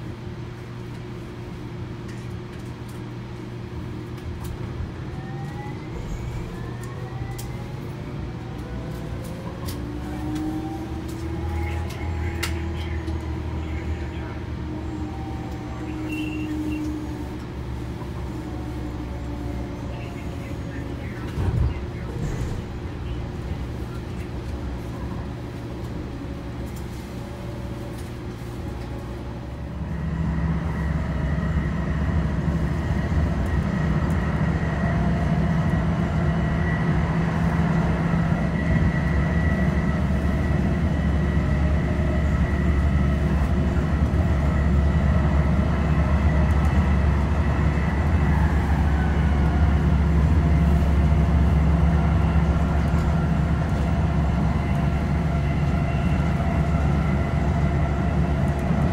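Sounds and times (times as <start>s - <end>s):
wheels rumbling on rail: 0.0s - 58.9s
humming tones of running gear: 4.9s - 58.9s.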